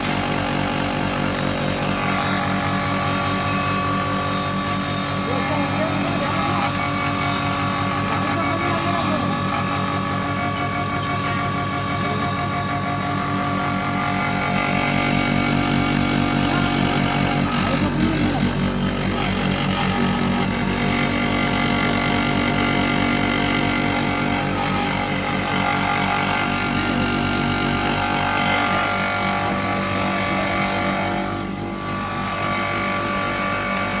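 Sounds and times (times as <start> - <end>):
grinder machine hum: 0.0 - 34.0.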